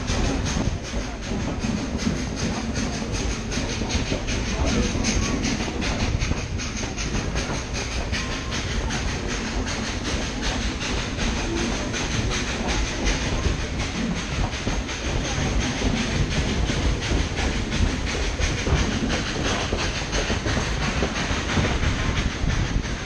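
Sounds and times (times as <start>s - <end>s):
steam locomotive exhaust chuffing: 0.0s - 23.0s
wheels clicking over rail joints: 0.0s - 23.0s.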